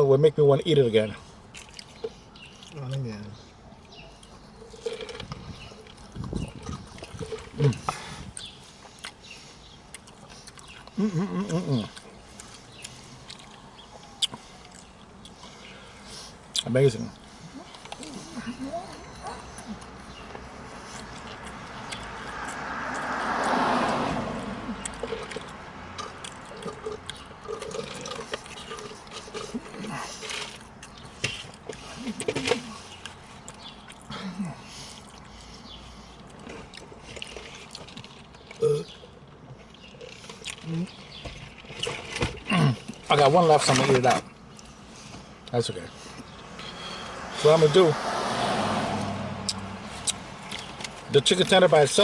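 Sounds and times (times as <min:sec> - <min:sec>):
man chewing crunchy food: 0:01.4 - 0:03.0, 0:03.8 - 0:18.1, 0:19.1 - 0:23.6, 0:24.7 - 0:47.0, 0:49.5 - 0:51.0.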